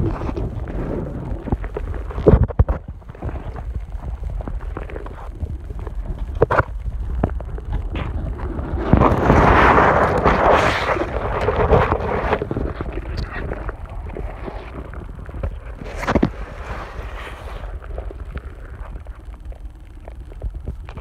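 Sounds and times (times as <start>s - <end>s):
muffled underwater rushing: 0.0s - 21.0s.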